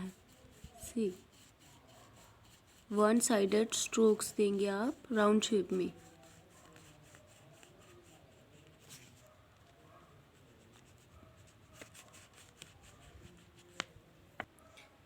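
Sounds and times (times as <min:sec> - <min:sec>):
crayon scratching on paper: 0:00.0 - 0:14.0.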